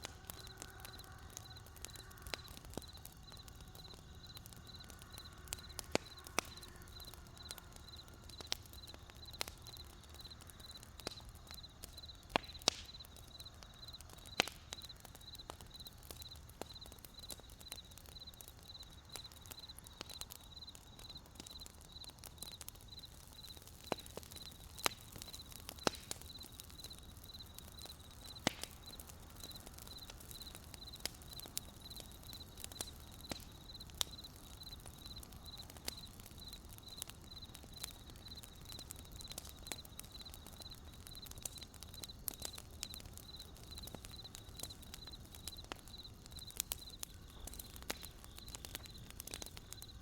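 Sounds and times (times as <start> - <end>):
campfire crackling and popping: 0.0 - 50.0
crickets chirping: 0.4 - 10.8, 12.9 - 19.7, 20.5 - 25.6, 26.2 - 50.0.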